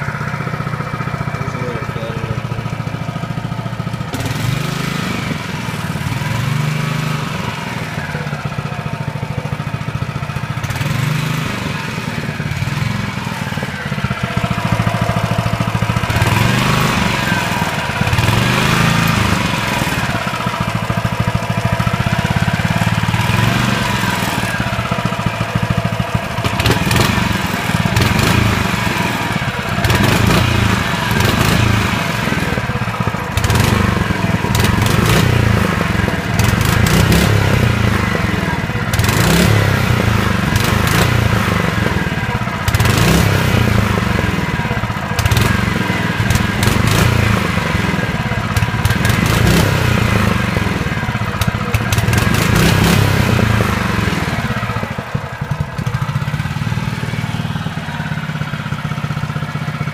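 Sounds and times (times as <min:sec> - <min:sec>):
lawn mower engine surging: 0:00.0 - 0:59.9.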